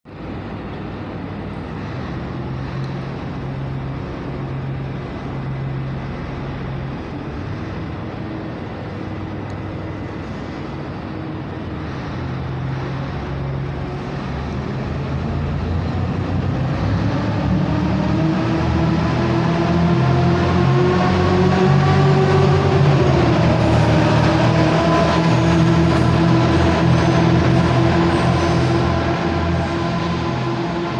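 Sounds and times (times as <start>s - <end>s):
diesel railcar engine revving: 0.1s - 30.9s.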